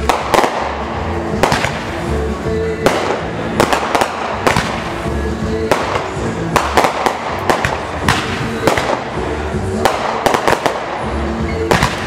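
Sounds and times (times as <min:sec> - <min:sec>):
fireworks bursting: 0:00.0 - 0:12.0
music: 0:00.0 - 0:12.0.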